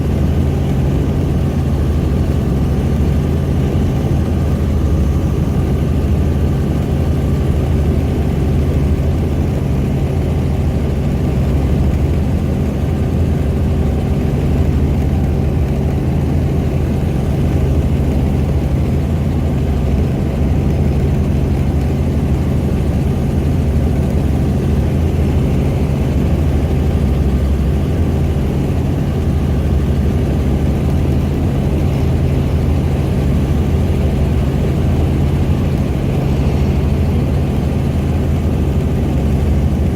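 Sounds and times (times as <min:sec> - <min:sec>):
helicopter turbine and rotor drone: 0:00.0 - 0:39.9.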